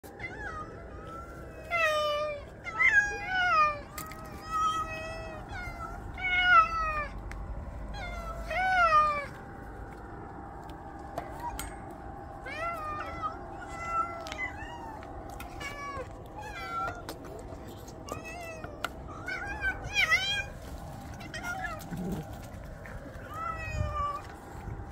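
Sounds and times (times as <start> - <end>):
cats meowing: 0.1 - 24.8.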